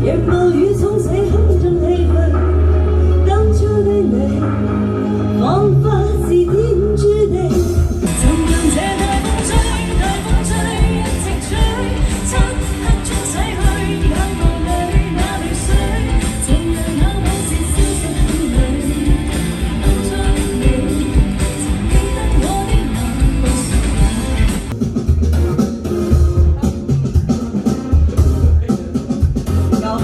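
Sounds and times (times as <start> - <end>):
pop-rock song with singer: 0.0 - 30.0.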